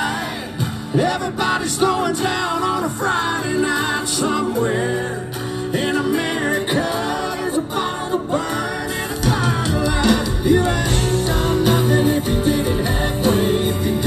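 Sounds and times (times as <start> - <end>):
country-rock band playing: 0.0 - 14.0
man singing lead vocal: 0.0 - 14.0.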